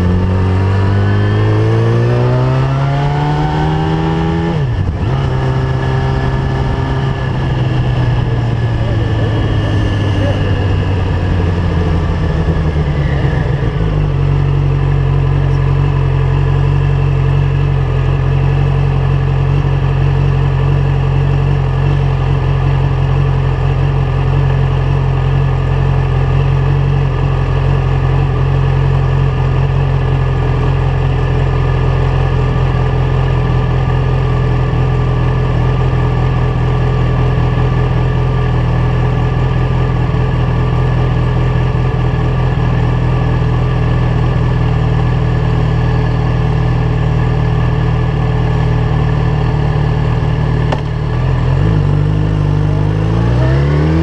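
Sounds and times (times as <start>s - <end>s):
motorcycle engine idling: 4.6s - 52.8s.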